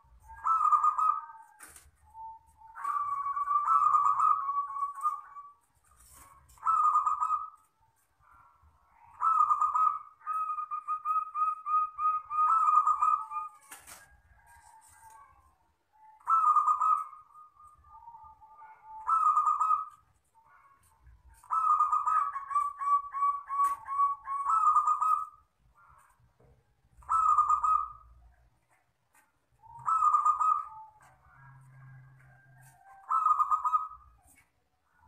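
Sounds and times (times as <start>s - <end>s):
dove cooing: 0.0s - 26.2s, 27.0s - 28.3s, 29.1s - 35.0s.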